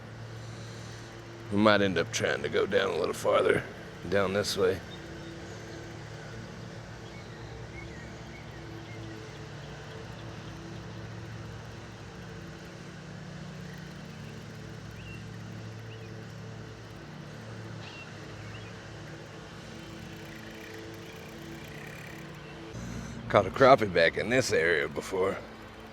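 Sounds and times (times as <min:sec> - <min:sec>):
low motor drone: 0:00.0 - 0:25.9.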